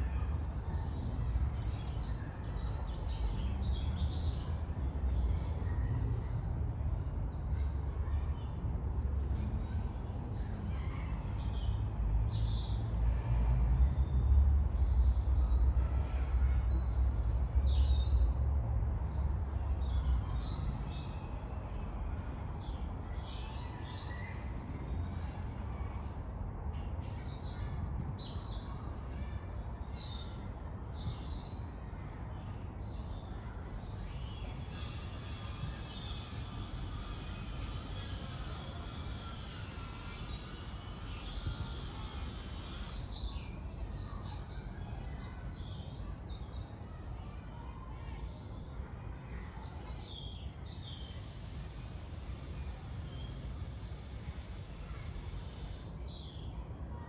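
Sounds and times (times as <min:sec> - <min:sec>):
small birds chirping and trilling: 0:00.0 - 0:18.4, 0:19.1 - 0:57.0.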